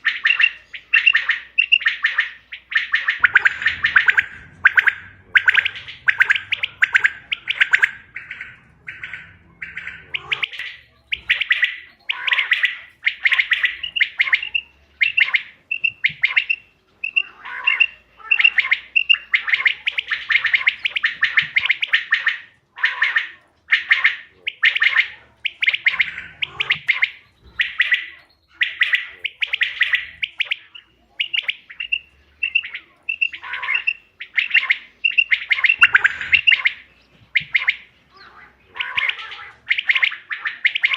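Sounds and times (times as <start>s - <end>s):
quail buzzy trilled calls: 0.0s - 40.9s
quick clear chirping: 0.0s - 40.9s.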